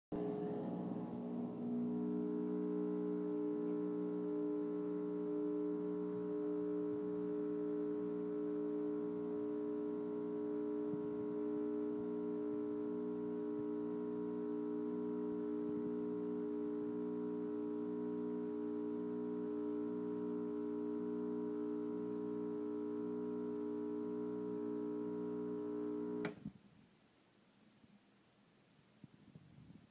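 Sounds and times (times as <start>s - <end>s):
espresso machine pump humming: 0.2s - 26.4s.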